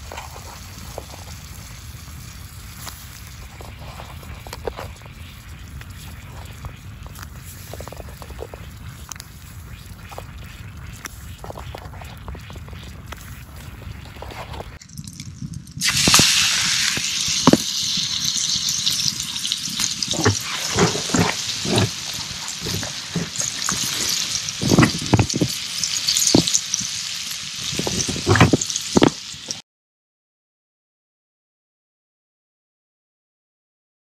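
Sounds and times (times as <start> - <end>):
pops and crackles: 0.0 - 29.6
steak sizzling in a frying pan: 0.0 - 29.6.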